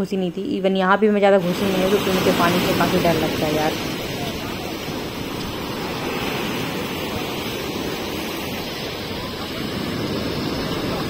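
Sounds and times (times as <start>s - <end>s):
surf washing up a beach: 1.4s - 11.0s.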